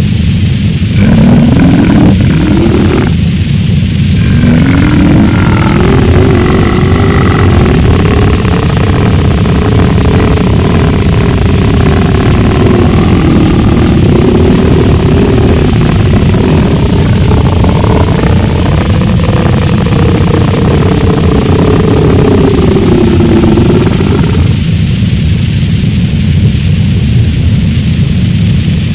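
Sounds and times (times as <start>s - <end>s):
harsh distorted noise: 0.0s - 28.9s
wavering hum: 0.0s - 28.9s.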